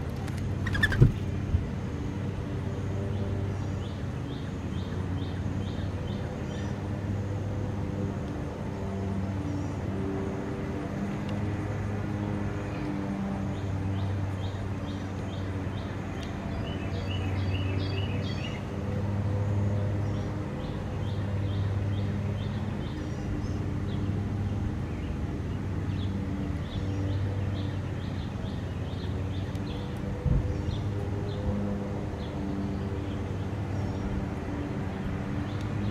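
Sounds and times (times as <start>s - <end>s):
small birds chirping: 0.0s - 7.5s, 12.1s - 35.9s
low engine-like hum: 0.0s - 35.9s.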